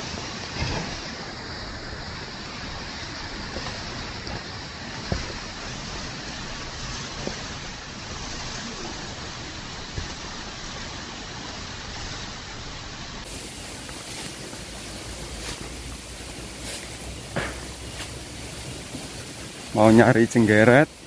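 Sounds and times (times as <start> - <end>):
rain on trees: 0.0 - 21.0.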